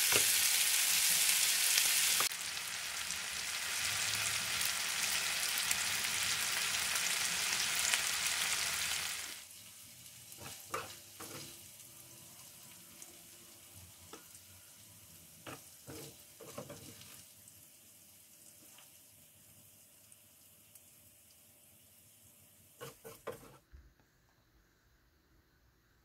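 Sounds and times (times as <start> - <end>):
wok sizzling: 0.0 - 23.7.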